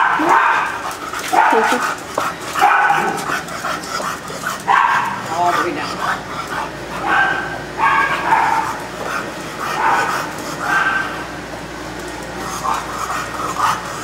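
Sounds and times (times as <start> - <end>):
dogs barking: 0.0 - 11.5.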